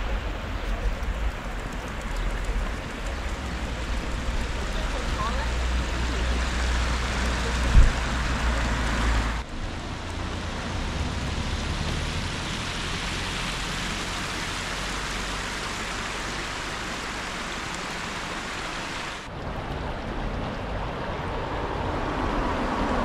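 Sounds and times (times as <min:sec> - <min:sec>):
stream water rushing over stones: 0:00.4 - 0:19.3.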